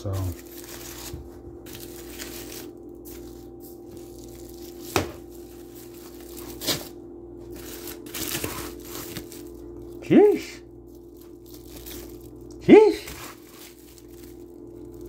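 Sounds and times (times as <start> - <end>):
foil wrapper crinkling: 0.0 - 10.0, 10.8 - 15.0.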